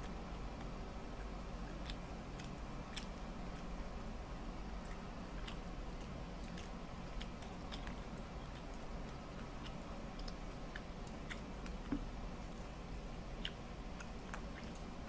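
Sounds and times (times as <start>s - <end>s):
steady low hum: 0.0s - 15.0s
person chewing: 1.7s - 3.8s, 4.7s - 15.0s.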